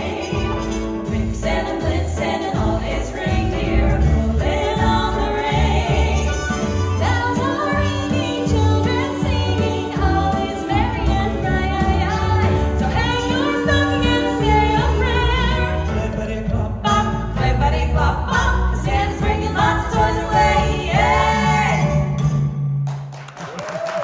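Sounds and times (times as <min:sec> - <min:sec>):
vocal group singing: 0:00.0 - 0:22.3
backing music: 0:00.0 - 0:22.8.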